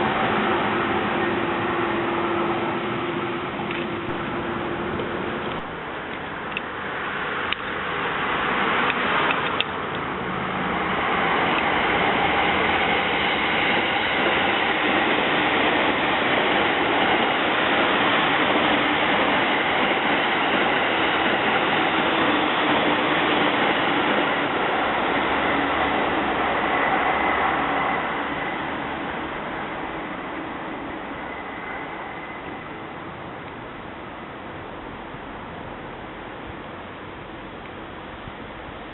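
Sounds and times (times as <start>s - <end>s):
train running past: 0.0s - 38.9s.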